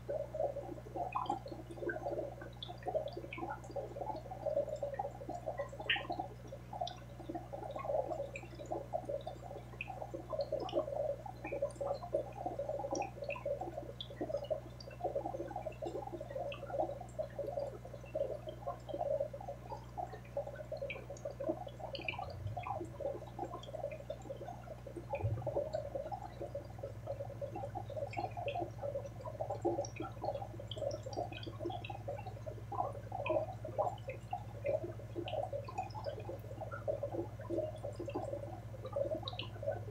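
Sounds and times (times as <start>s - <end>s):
aquarium water bubbling: 0.0s - 39.9s
pump humming: 0.0s - 39.9s.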